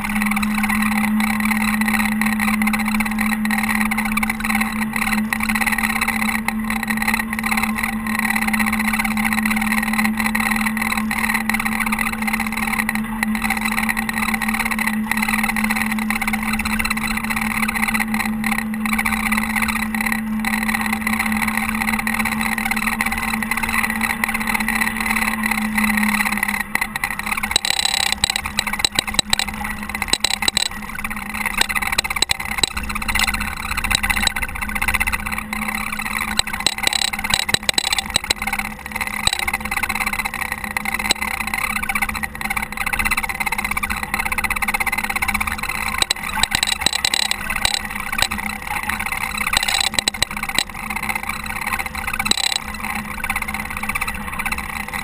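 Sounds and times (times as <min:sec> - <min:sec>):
diesel engine running: 0:00.0 - 0:55.0
low hum: 0:00.0 - 0:55.0
knocks and rattles: 0:08.4 - 0:55.0.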